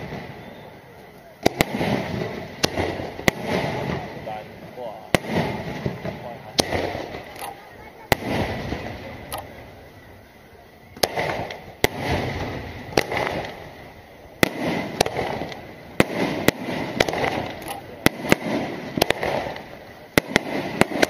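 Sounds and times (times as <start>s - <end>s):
firework shells bursting: 0.0s - 10.1s, 10.9s - 21.0s.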